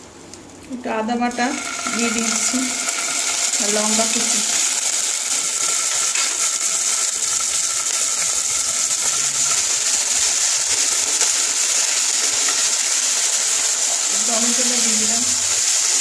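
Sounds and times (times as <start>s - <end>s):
food sizzling in hot oil: 1.2s - 16.0s
wooden spatula stirring in wok: 1.7s - 16.0s.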